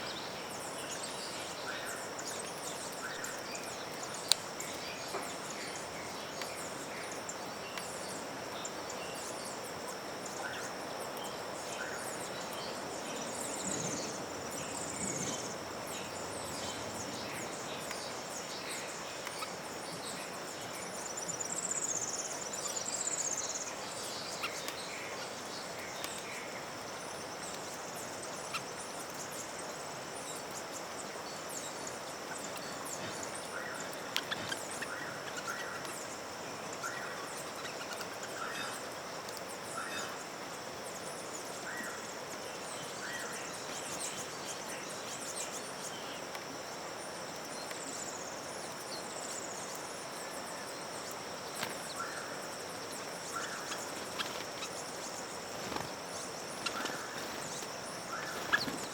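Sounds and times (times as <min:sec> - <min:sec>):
birds chirping and trilling: 0:00.0 - 0:58.9.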